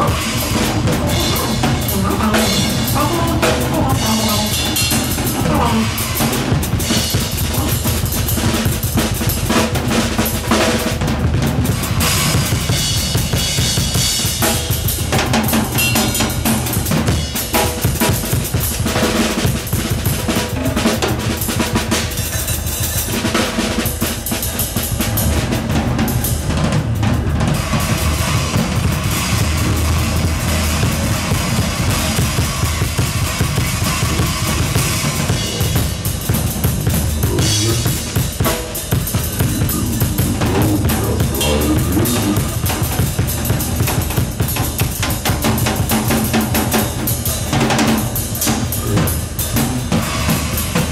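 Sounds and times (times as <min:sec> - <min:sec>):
drum kit playing: 0:00.0 - 0:50.9.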